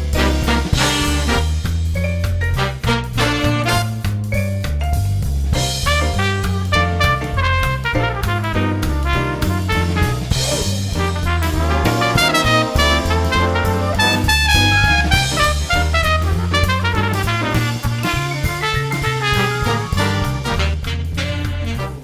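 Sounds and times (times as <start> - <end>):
horns playing a melody: 0.0 - 1.8, 2.5 - 4.4, 5.8 - 22.0
steady bass beat: 0.0 - 22.0.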